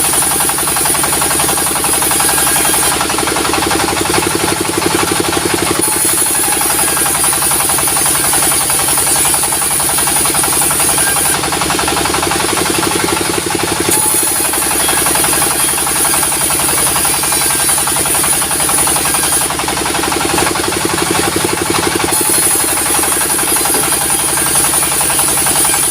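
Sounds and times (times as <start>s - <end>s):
diesel engine chugging: 0.0s - 25.9s.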